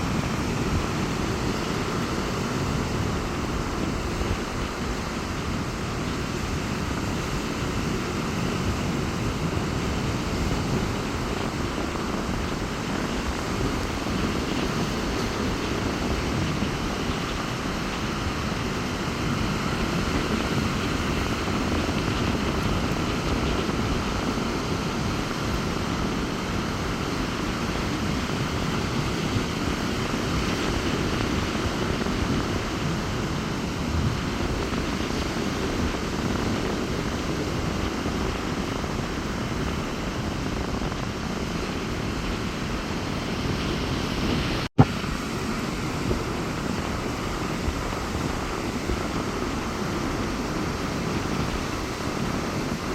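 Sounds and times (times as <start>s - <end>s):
sea surf breaking: 0.0s - 52.9s
wind rumbling on microphone: 0.0s - 52.9s.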